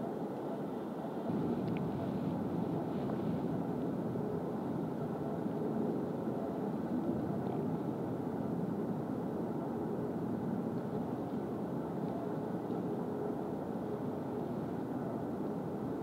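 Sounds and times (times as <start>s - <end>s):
low background rumble: 0.7s - 16.0s.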